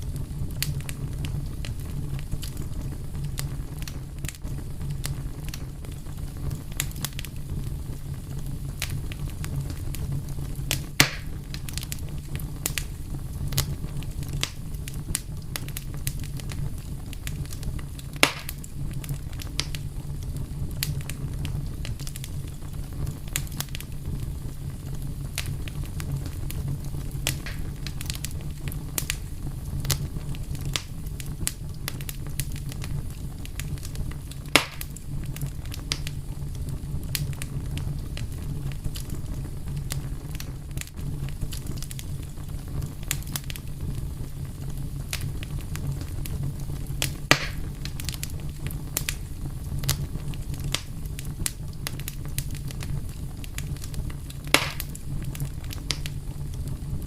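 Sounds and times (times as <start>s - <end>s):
fire popping and snapping: 0.0s - 57.0s
wood fire crackling: 0.0s - 57.0s.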